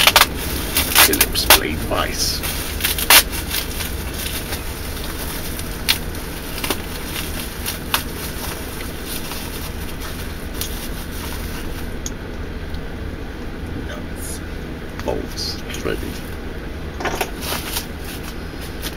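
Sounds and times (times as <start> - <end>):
low rumbling background noise: 0.0 - 18.9.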